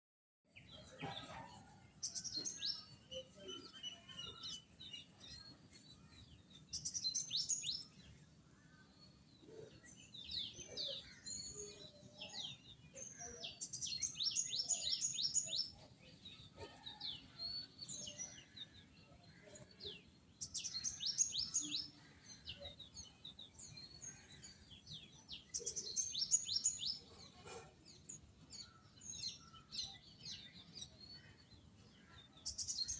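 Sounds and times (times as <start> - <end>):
songbirds chirping: 0.5 - 32.9.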